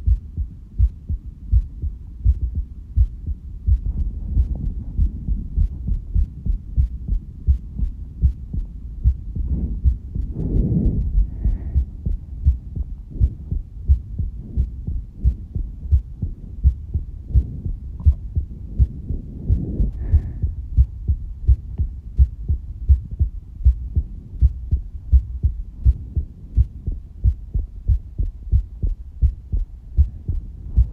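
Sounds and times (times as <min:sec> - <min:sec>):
heartbeat thuds: 0:00.0 - 0:30.9.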